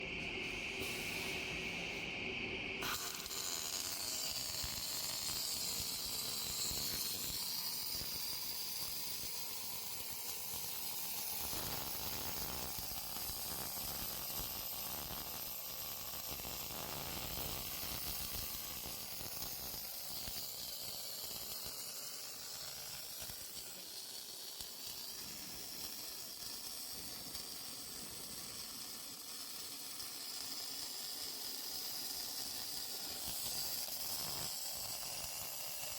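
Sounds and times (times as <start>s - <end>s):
welding arc hissing: 0.1s - 2.1s, 2.8s - 35.9s.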